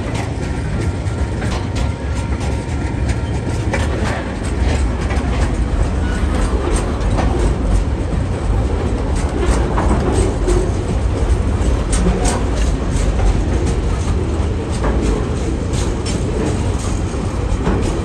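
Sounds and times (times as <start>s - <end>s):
freight train rumbling past: 0.0s - 18.0s
wheels clicking over rails: 0.0s - 18.0s.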